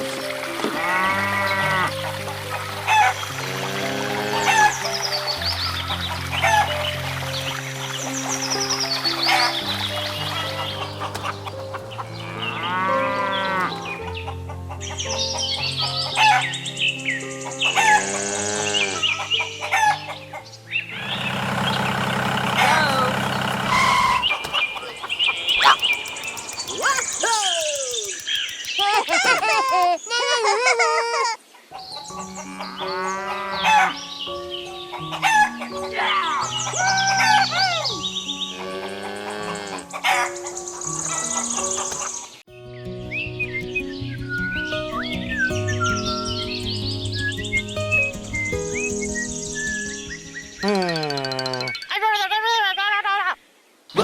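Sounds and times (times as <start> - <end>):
background music with held notes: 0.0 - 29.9, 31.6 - 51.5
birds chirping: 4.4 - 30.1, 31.9 - 52.0.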